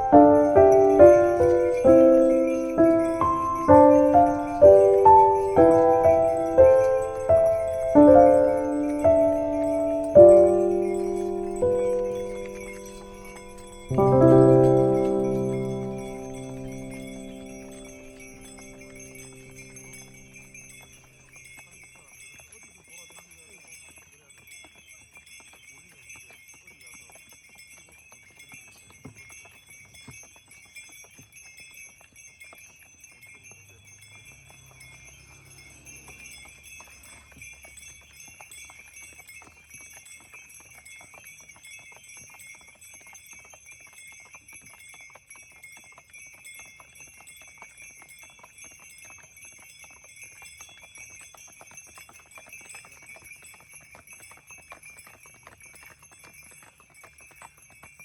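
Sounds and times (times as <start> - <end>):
harness bells jingling: 0.0 - 58.0
hooves clopping on snowy road: 0.0 - 58.0.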